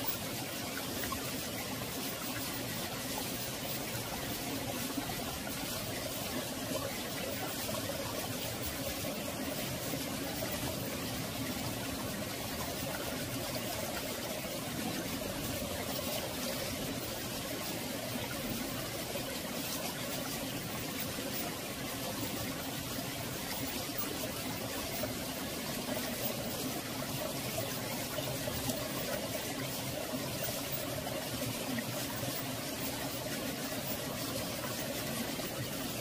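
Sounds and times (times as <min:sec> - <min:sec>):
stream flowing over rocks: 0:00.0 - 0:36.0.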